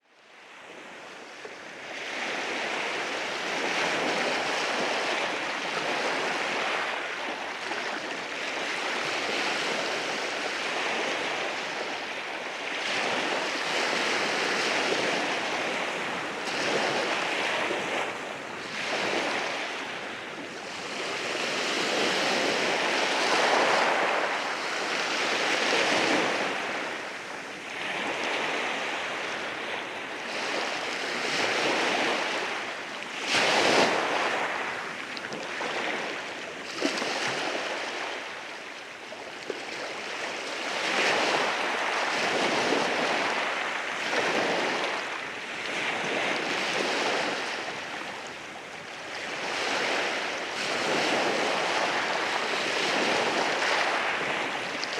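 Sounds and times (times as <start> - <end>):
wind on microphone: 1.9 - 38.5, 39.7 - 54.9
sea waves on rocky shore: 2.0 - 38.5, 39.6 - 54.9.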